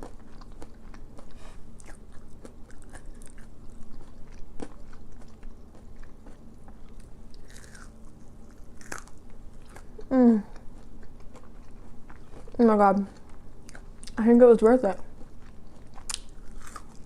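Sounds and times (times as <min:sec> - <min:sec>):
mouth chewing crispy food: 0:00.0 - 0:14.3, 0:15.0 - 0:17.0.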